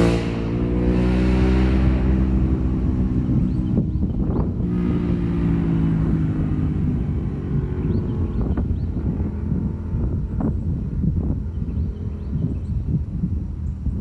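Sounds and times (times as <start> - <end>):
motorcycle engine running: 0.0 - 14.0
wind across microphone: 0.0 - 14.0.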